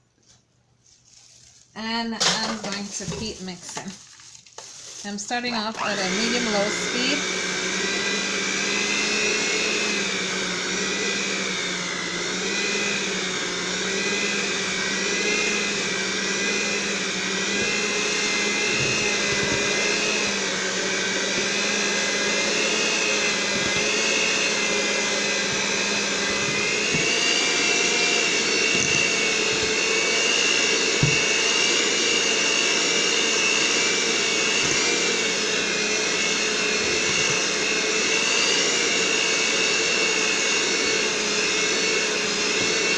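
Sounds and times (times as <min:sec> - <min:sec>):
electric mixer whining: 0:02.2 - 0:04.0, 0:04.9 - 0:42.9.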